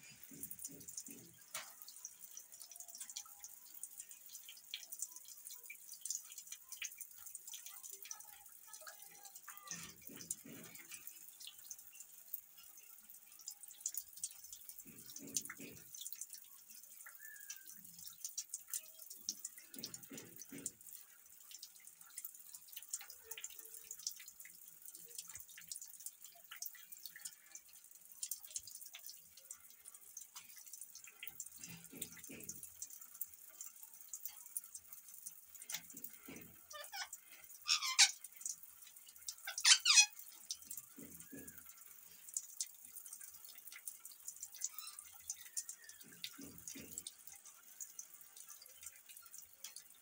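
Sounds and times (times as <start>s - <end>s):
faint water dripping: 0.0s - 50.0s.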